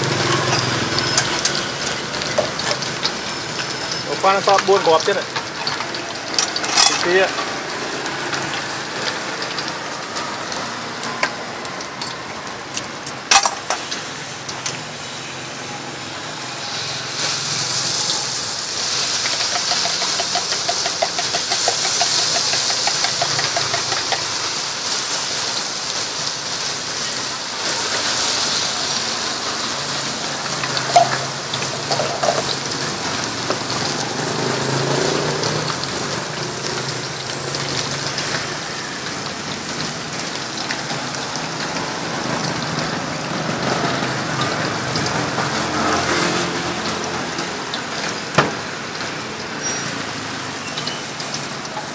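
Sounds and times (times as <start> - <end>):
food deep-frying in oil: 0.0 - 51.9.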